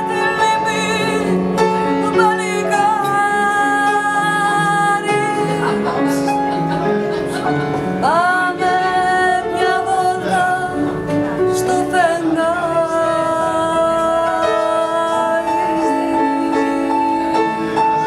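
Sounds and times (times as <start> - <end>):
woman singing with vibrato: 0.0 - 5.7, 8.0 - 18.0
piano accompaniment: 0.0 - 18.0.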